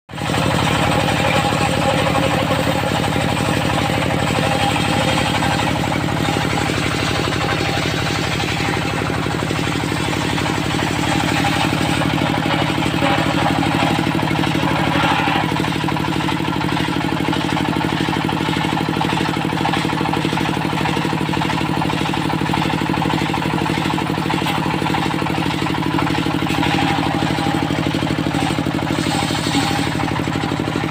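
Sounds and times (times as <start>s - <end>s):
sawmill engine running: 0.1s - 30.9s.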